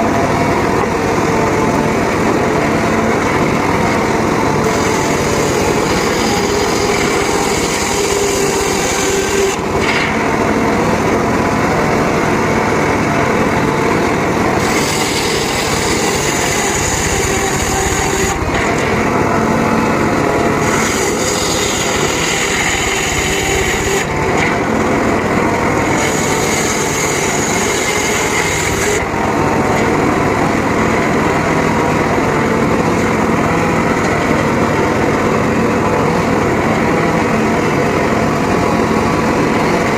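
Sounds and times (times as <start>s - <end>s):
saw blade cutting wood: 0.0s - 13.8s, 14.5s - 39.9s
sawmill engine running: 0.0s - 39.9s.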